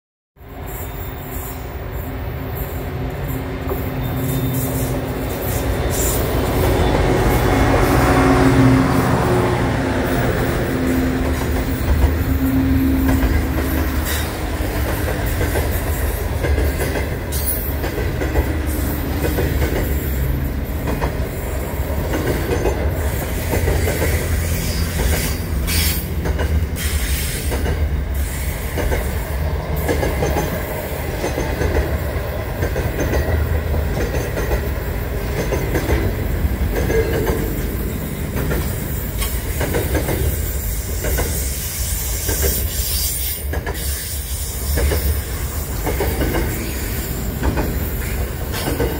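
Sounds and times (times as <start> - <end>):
diesel locomotive engines: 0.4 - 48.9.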